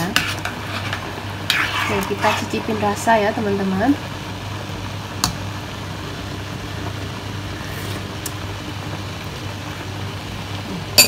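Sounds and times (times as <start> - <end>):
extractor fan humming: 0.0 - 11.0.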